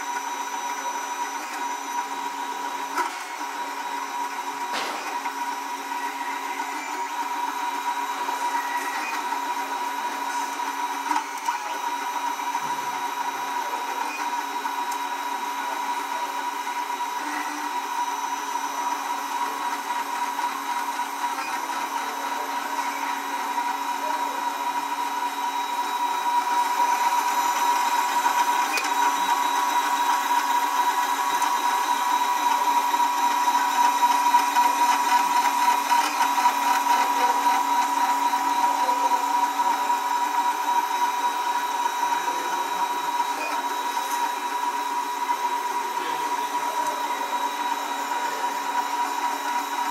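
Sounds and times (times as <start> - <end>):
printer stepper motors whirring: 0.0 - 49.9.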